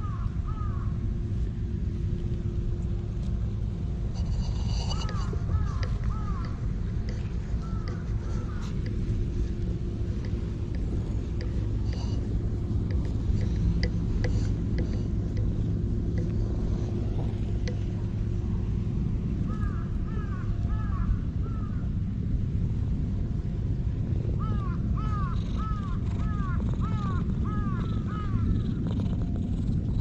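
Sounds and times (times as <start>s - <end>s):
low rumble with faint hum: 0.0s - 30.0s.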